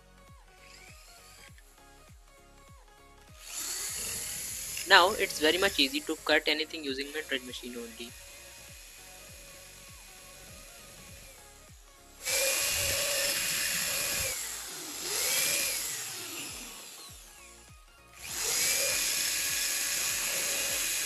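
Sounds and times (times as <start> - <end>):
drill cutting disc whining: 3.3 - 21.0.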